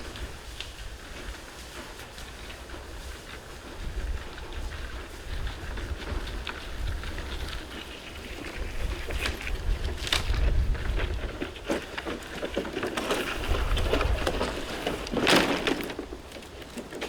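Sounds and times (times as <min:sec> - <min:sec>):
wind buffeting microphone: 0:00.0 - 0:16.3
dry rustling and crackling: 0:00.0 - 0:17.0.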